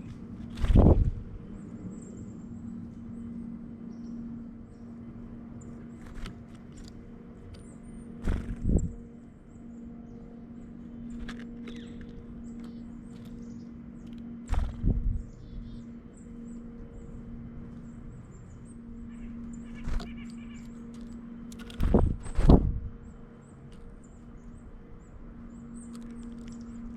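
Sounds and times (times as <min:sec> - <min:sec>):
birds calling: 0:00.0 - 0:26.9
steady low hum: 0:00.0 - 0:26.9.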